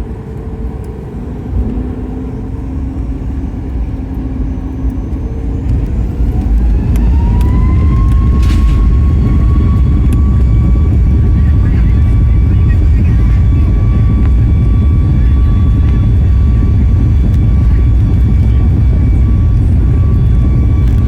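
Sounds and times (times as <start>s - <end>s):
jet engine whine rising: 0.0s - 21.0s
jet engines deep rumble: 0.0s - 21.0s.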